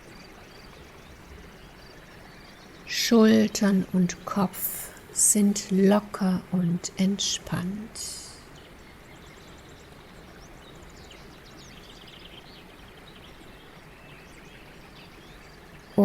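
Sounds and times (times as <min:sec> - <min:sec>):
songbirds twittering: 0:00.0 - 0:16.0
steady background hiss: 0:00.0 - 0:16.0.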